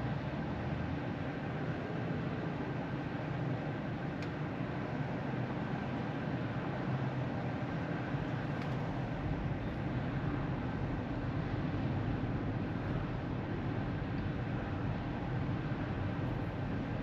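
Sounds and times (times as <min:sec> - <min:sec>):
road and tyre noise in car: 0:00.0 - 0:17.0.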